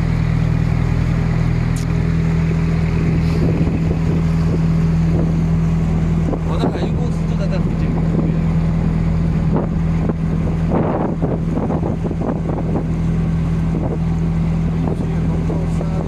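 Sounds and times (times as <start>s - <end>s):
boat engine humming: 0.0s - 16.0s
water splashing against hull: 0.0s - 16.0s
wind noise on microphone: 2.8s - 16.0s.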